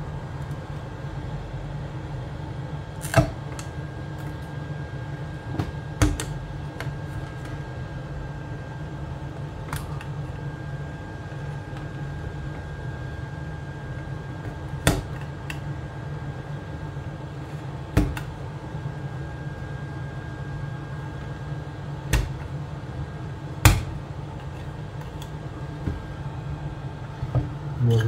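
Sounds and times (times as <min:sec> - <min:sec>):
hot-air blower fan hum: 0:00.0 - 0:28.0.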